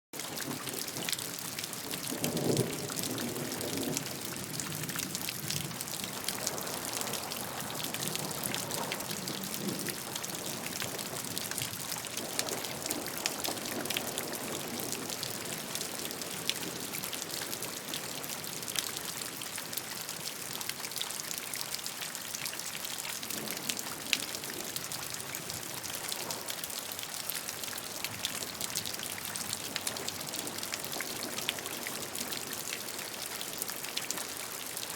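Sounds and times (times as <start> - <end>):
gentle rain hiss: 0.2 - 34.9
raindrops ticking on surface: 0.2 - 34.9.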